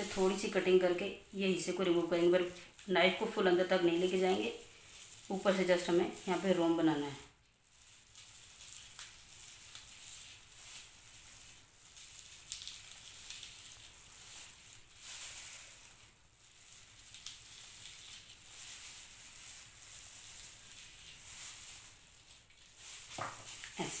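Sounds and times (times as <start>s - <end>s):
plastic gloves rustling: 0.0s - 24.0s.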